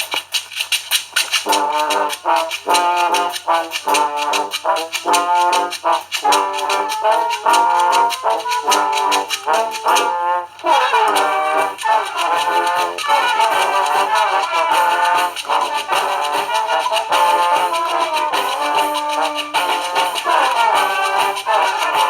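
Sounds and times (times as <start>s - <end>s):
fast percussion: 0.0s - 22.0s
brass band playing a melody: 1.3s - 22.0s.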